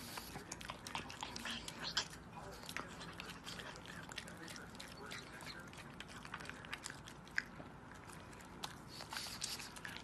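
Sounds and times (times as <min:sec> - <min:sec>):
dog chewing a treat: 0:00.0 - 0:10.0.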